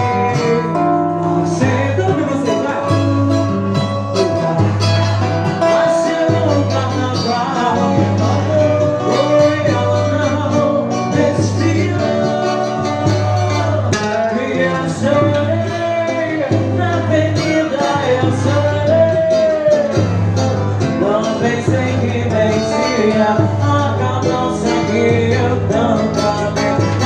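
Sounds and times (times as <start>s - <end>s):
small band playing: 0.0s - 27.0s.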